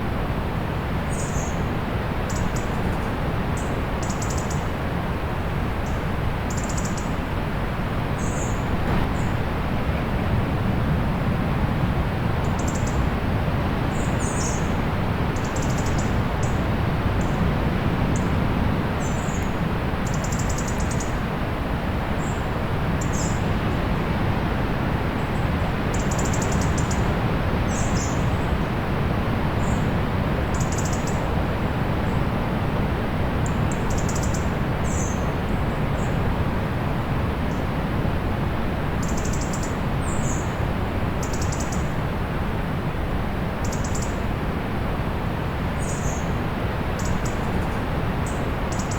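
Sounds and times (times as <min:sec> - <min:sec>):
distant sea surf: 0:07.2 - 0:48.9.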